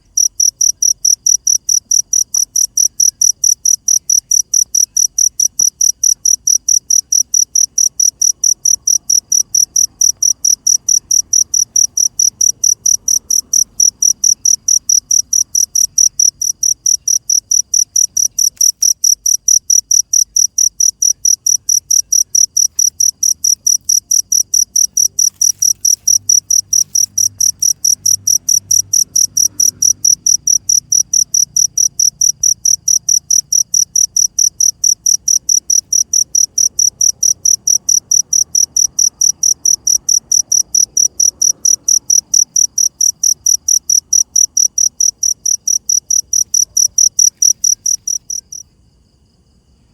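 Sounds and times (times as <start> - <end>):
cricket chirping: 0.0 - 49.9.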